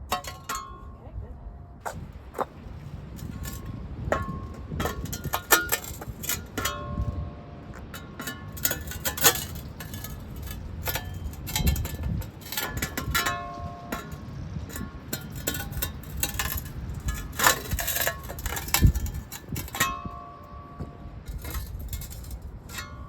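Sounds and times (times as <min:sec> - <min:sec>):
pavers clinking together: 0:01.8 - 0:23.0.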